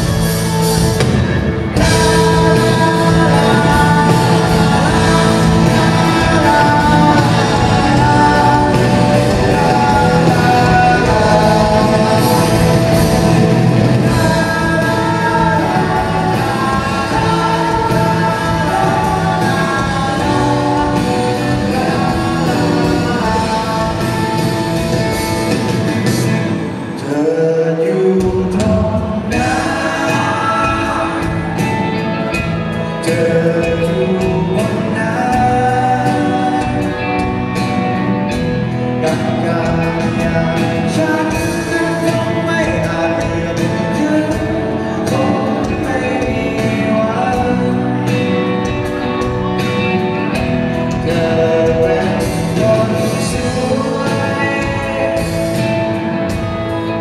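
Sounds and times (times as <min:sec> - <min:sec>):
guitar: 0:00.0 - 0:57.0
person singing: 0:00.0 - 0:57.0.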